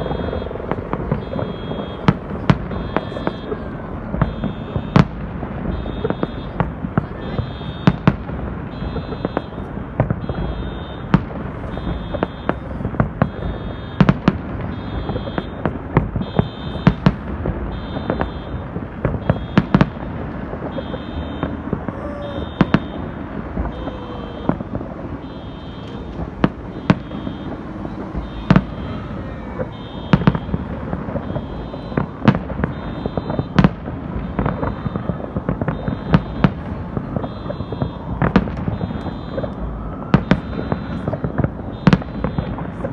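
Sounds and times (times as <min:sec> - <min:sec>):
fireworks bangs: 0:00.0 - 0:42.9
low rumble of distant explosions: 0:00.0 - 0:42.9.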